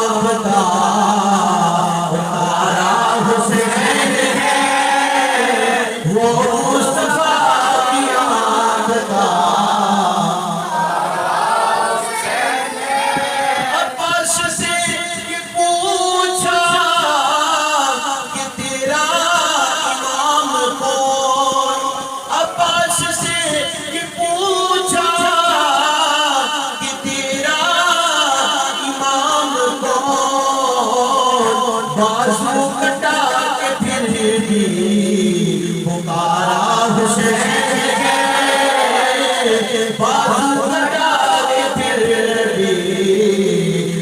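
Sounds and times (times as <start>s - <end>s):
chorus singing devotional chant: 0.0s - 44.0s.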